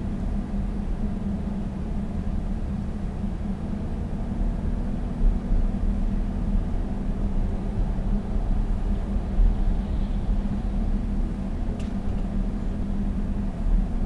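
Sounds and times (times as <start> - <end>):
diesel engine cabin rumble: 0.0 - 14.0.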